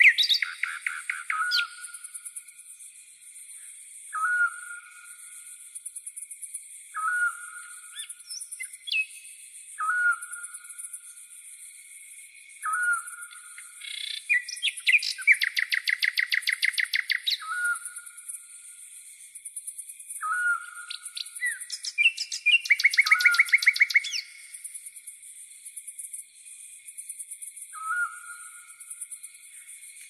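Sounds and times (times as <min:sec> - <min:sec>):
crickets chirping: 0:00.0 - 0:30.0
songbird singing: 0:00.0 - 0:30.0.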